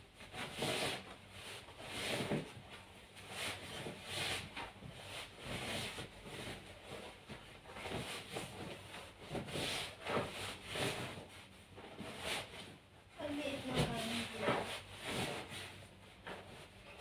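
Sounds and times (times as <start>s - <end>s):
fabric rustling and rubbing: 0.0s - 17.0s.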